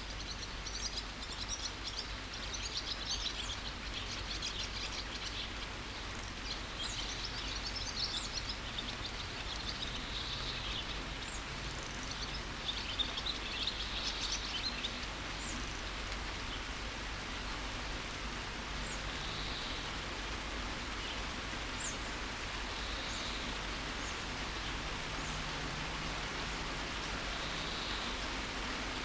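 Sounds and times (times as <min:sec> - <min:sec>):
birds chirping: 0:00.0 - 0:29.0
rain falling: 0:00.0 - 0:29.0.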